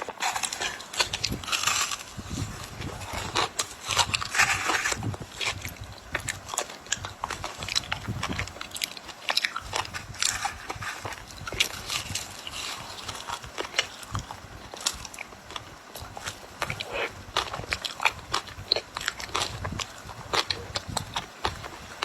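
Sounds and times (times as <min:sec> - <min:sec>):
person crunching ice: 0:00.0 - 0:22.0.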